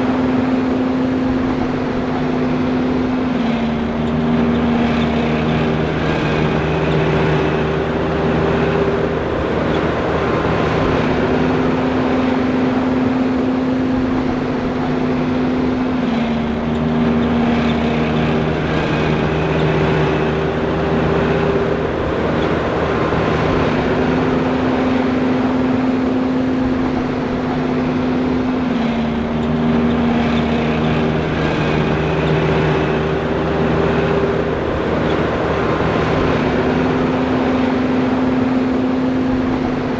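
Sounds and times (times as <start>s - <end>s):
forage harvester machine drone: 0.0s - 39.9s.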